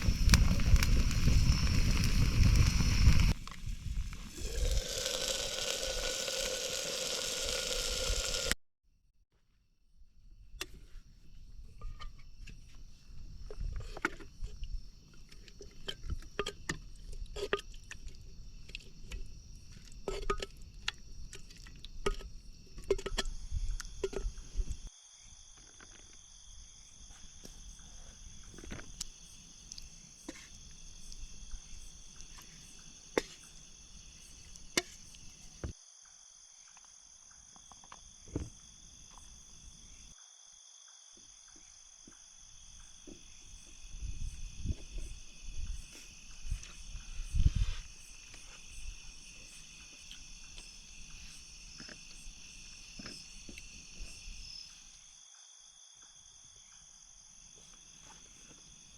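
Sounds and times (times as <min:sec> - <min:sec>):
night insects chirring: 0:00.0 - 0:08.6, 0:10.2 - 0:58.9.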